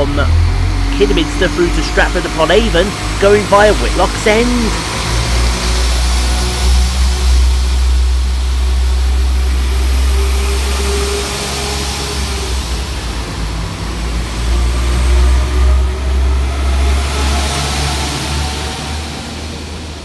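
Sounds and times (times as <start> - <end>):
diesel train engine rumbling: 0.0 - 20.0.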